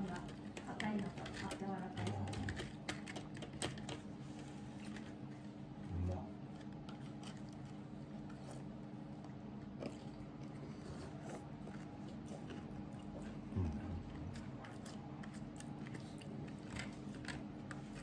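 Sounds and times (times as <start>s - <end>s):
faint chewing: 0.0s - 18.0s
steady low hum: 0.0s - 18.0s.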